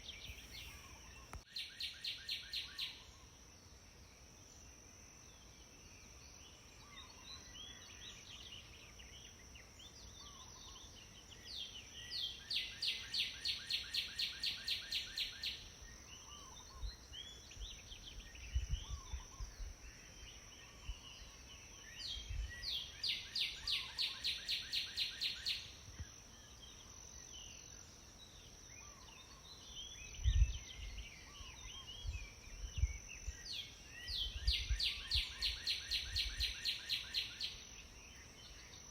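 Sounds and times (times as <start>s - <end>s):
faint bird chirps: 0.0s - 38.9s.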